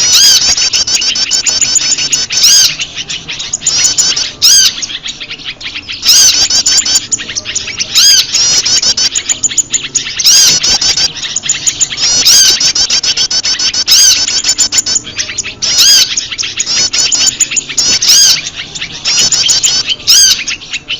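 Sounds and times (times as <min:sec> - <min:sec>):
bird calls: 0:00.0 - 0:20.9
small birds chirping in alarm: 0:00.0 - 0:20.9.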